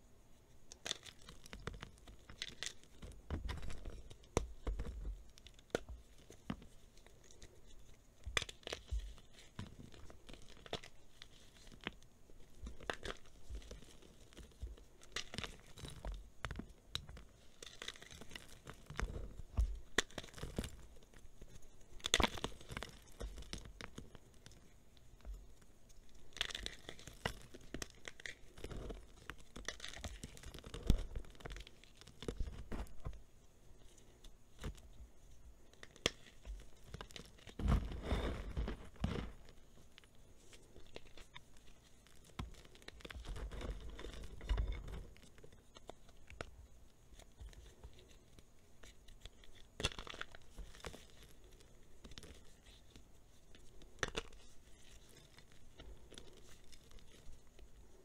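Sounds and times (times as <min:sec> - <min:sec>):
chalk crunching and crackling: 0:00.6 - 0:58.0.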